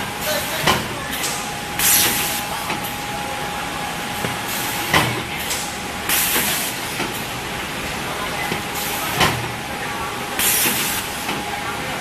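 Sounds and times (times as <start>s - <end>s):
packaging machine hum: 0.0s - 12.0s.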